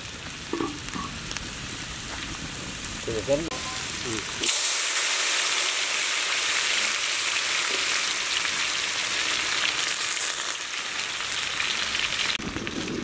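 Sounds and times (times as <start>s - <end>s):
butter sizzling in a pan: 0.0s - 13.0s.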